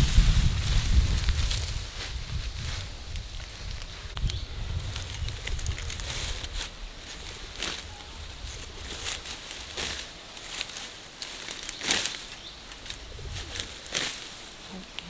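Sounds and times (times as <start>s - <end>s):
swishing strokes through grass: 0.0s - 15.0s.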